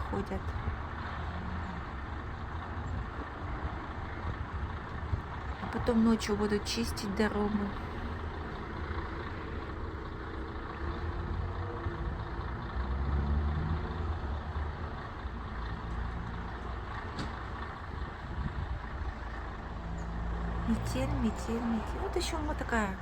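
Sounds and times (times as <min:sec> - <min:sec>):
bus diesel engine passing: 0:00.0 - 0:23.0.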